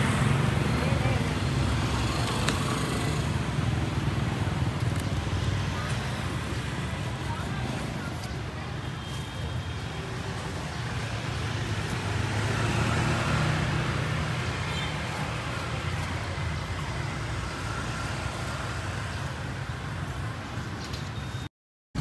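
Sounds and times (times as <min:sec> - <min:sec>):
street traffic rumbling: 0:00.0 - 0:22.0.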